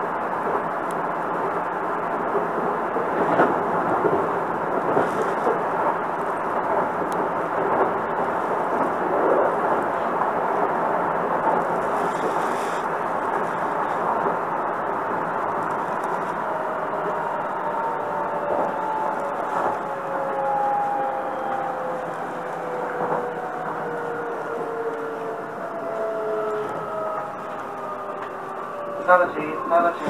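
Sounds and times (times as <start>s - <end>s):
train hum and hiss: 0.0s - 30.0s.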